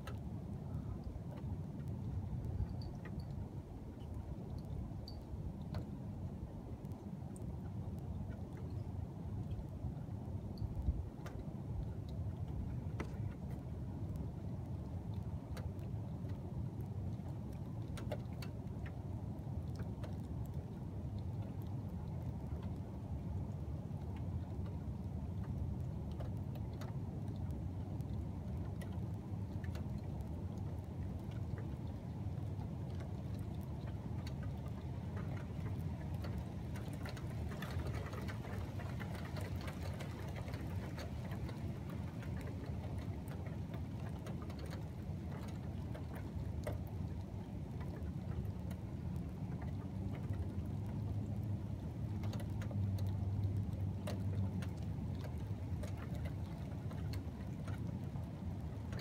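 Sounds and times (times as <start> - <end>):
light ticks of rain: 0.0 - 59.0.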